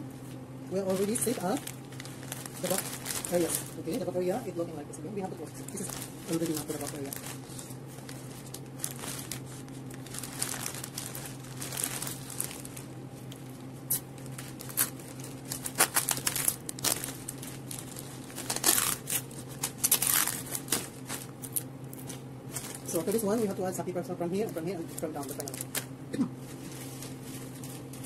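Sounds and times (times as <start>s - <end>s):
steady low hum: 0.0s - 28.0s
wrapping paper crinkling: 0.8s - 4.5s, 5.3s - 23.8s, 24.4s - 25.9s, 26.5s - 28.0s.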